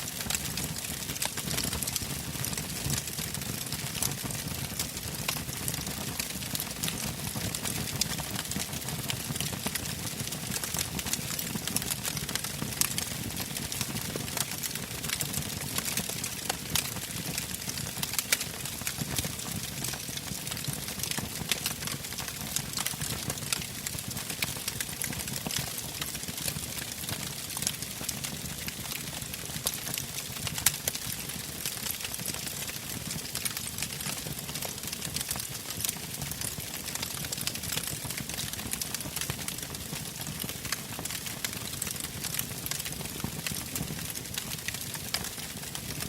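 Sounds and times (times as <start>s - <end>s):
campfire crackling and popping: 0.0s - 46.0s.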